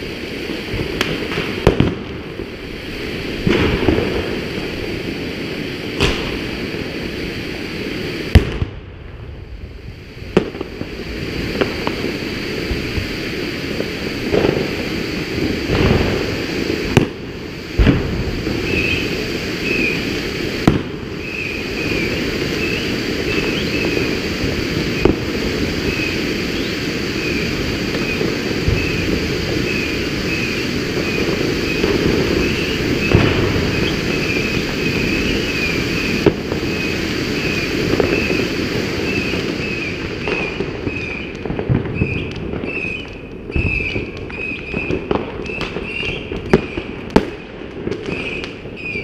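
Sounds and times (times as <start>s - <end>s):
firework sharp cracks: 0.0s - 49.0s
firework sparks hissing: 0.0s - 49.0s.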